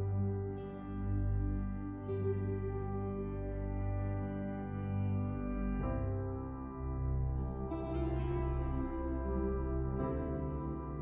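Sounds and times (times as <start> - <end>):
soft new-age background music: 0.0 - 11.0.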